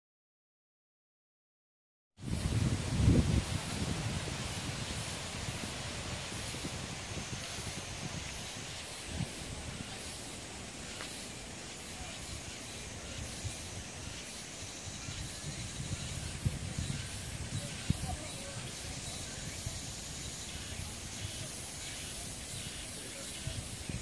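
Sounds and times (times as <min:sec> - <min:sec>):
cicadas buzzing: 0:02.2 - 0:24.0.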